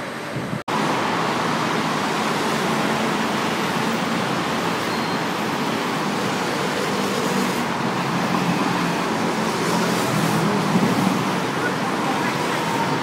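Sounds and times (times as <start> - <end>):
busy road traffic: 0.0 - 13.0.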